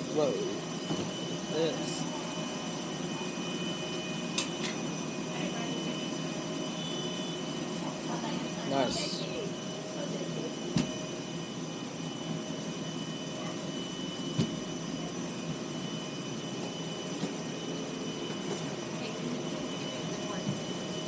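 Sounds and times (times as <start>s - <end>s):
air conditioning hum: 0.0s - 21.0s
jet engines humming: 0.0s - 21.0s.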